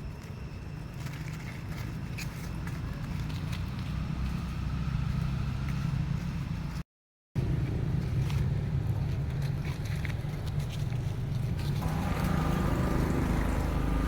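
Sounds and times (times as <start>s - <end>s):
motor vehicle rumbling: 0.0s - 6.8s, 7.4s - 14.0s.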